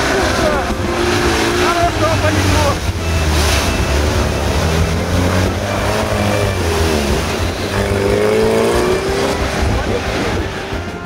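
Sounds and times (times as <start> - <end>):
engine revving hard: 0.0 - 11.0
vehicle ploughing through mud and water: 0.0 - 11.0.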